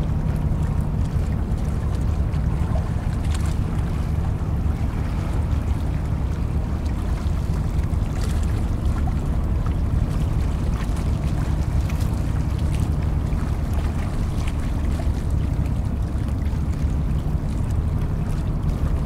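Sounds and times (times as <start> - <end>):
churning water: 0.0 - 19.0.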